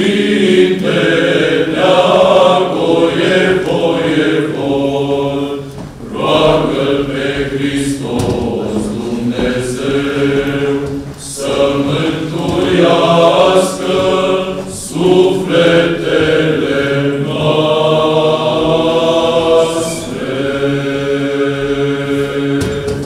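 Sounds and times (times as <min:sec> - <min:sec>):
male choir chanting unaccompanied: 0:00.0 - 0:23.0.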